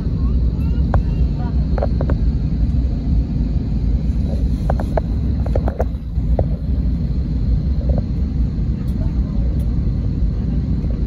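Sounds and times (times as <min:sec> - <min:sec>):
jet engines low rumble: 0:00.0 - 0:11.0.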